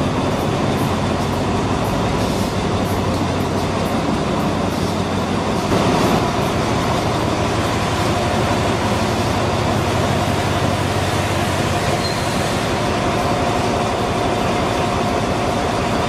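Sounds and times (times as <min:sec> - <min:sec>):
locomotive engine droning: 0:00.0 - 0:16.0.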